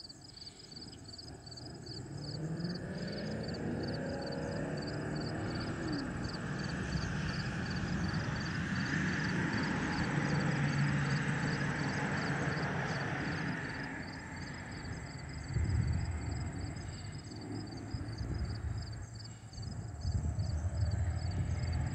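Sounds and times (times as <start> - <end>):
distant jet roar: 1.3 - 21.9.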